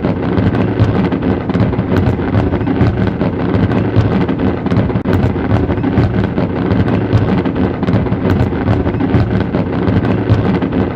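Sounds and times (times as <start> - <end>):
fireworks bursting: 0.0 - 10.9
sharp firework cracks: 0.0 - 10.9.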